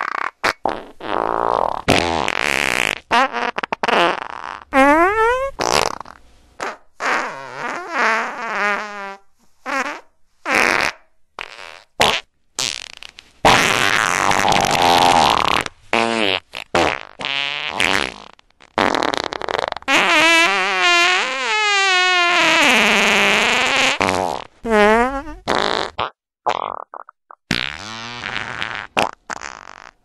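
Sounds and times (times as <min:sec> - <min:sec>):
airy hissing fart: 0:00.0 - 0:30.0
farts: 0:00.0 - 0:30.0
long buzzing fart: 0:00.0 - 0:30.0.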